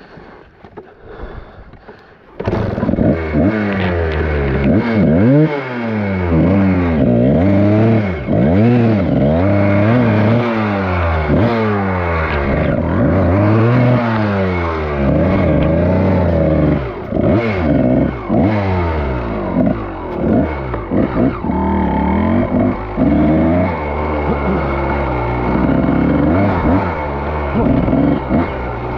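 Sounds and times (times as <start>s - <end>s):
clatter: 2.4s - 5.5s, 6.3s - 28.9s
dirt bike engine revving: 2.4s - 28.9s.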